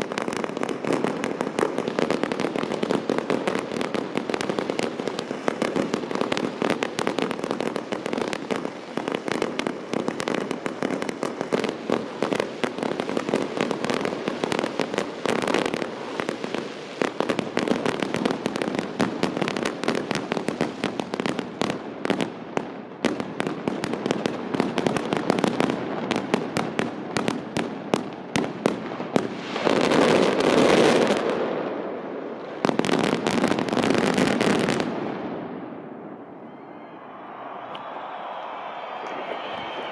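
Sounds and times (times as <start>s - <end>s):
fireworks cracks and bangs: 0.0s - 36.0s, 37.3s - 39.9s.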